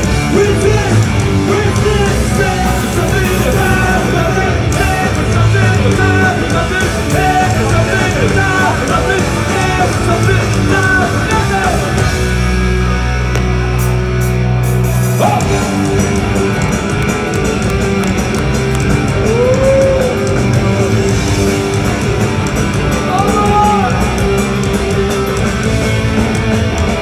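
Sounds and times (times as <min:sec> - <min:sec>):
punk rock band playing: 0:00.0 - 0:27.0.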